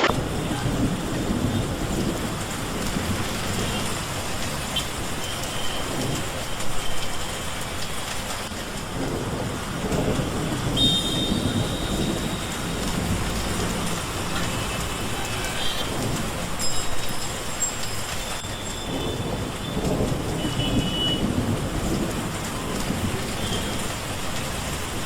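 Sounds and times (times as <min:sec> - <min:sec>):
heavy rain on a road: 0:00.0 - 0:25.0.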